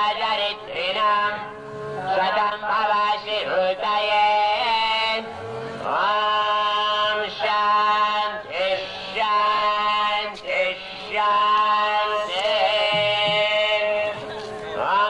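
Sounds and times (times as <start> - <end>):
man singing chant-like phrases: 0.0 - 15.0.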